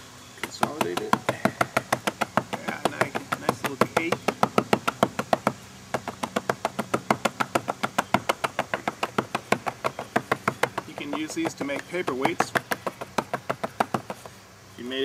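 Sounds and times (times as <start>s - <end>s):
rapid tapping of metal pan: 0.4s - 14.2s.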